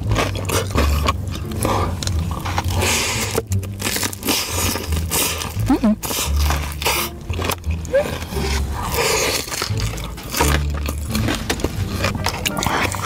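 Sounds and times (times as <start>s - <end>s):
wet chewing and mouth smacking: 0.0s - 13.0s.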